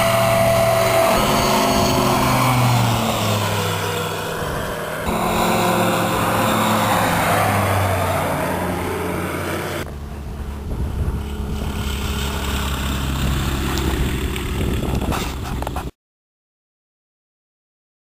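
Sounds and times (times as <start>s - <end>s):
low rumble: 0.0s - 15.7s
light aircraft engine droning: 0.0s - 15.9s.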